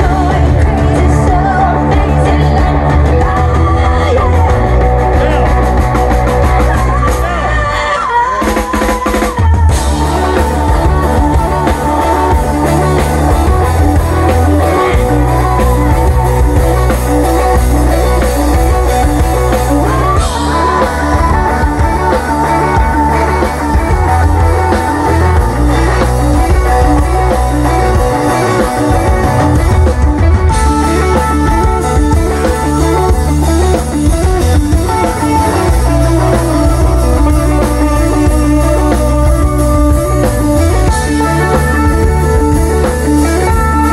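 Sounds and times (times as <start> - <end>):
bass line: 0.0 - 43.9
drum kit: 0.0 - 43.9
electric guitars: 0.0 - 43.9.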